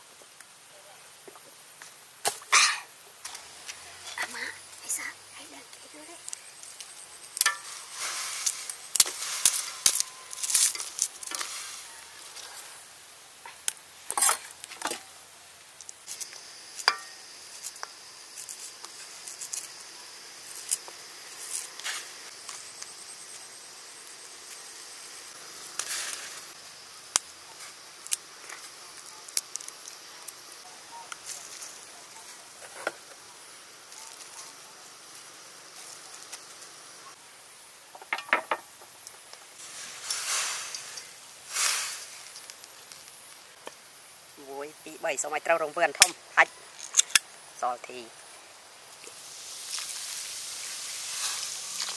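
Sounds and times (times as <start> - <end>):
faint steady hiss: 0.0 - 51.9.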